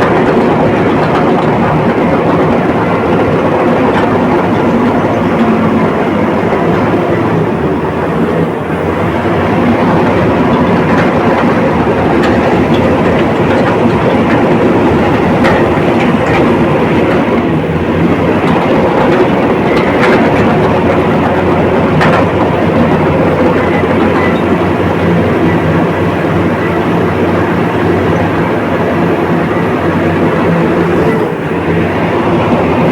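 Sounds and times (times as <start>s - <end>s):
bulldozer diesel engine: 0.0s - 32.9s
steel tracks clattering: 0.0s - 32.9s.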